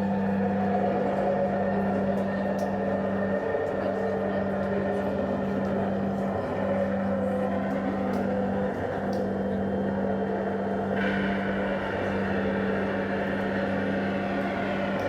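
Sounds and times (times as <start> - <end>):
low electronic hum: 0.0 - 15.0.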